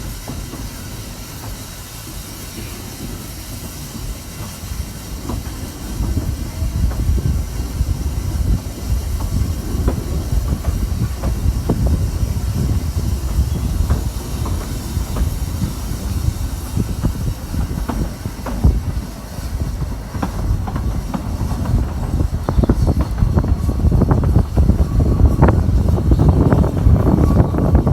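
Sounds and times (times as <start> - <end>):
train running on track: 0.0 - 27.9
wind buffeting microphone: 3.1 - 27.9.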